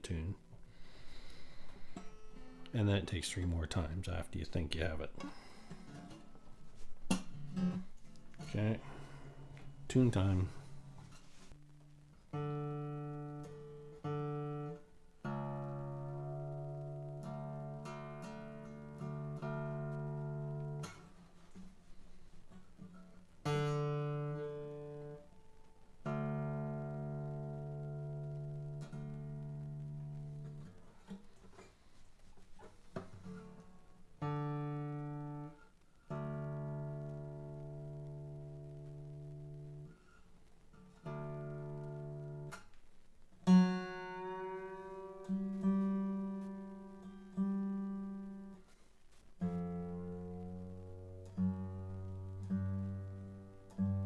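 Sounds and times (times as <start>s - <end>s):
acoustic guitar strings plucked: 0.0s - 54.0s.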